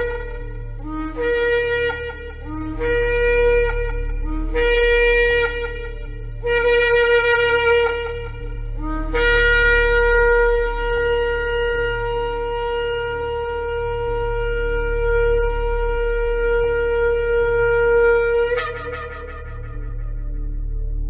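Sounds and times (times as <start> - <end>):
shofar blasts: 0.0 - 20.5.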